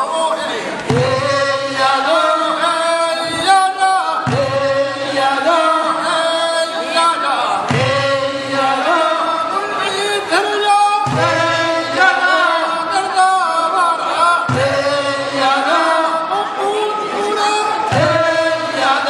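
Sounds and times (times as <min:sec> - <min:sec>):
men singing: 0:00.0 - 0:19.0.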